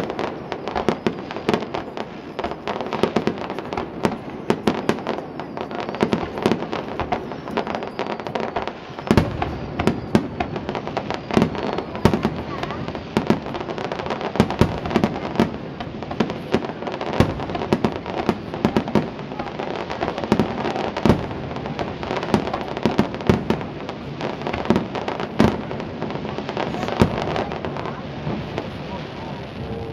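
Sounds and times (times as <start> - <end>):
firework crackle: 0.0 - 29.9.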